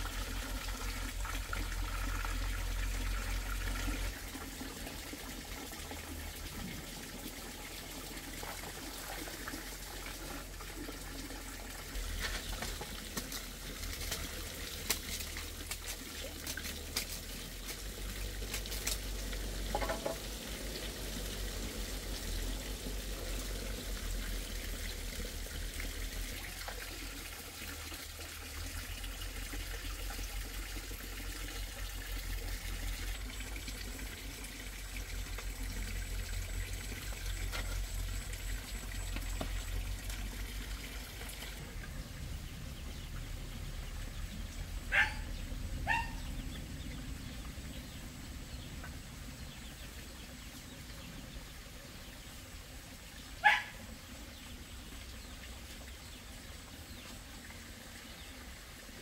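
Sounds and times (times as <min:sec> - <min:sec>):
trickling running water: 0:00.0 - 0:59.0.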